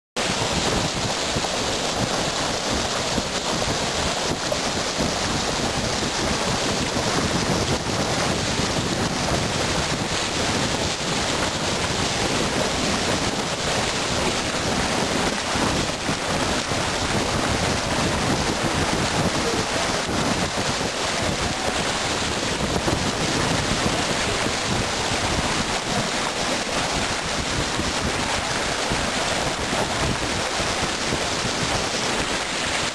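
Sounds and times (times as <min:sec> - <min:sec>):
water rushing and splashing: 0:00.2 - 0:32.9
wind noise on microphone: 0:00.2 - 0:32.9.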